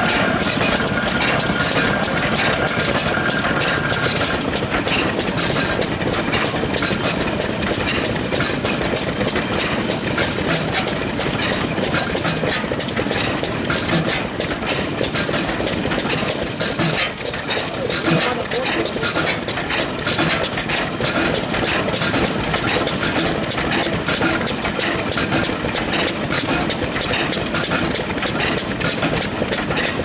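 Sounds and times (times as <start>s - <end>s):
stationary engines chugging: 0.0s - 30.0s.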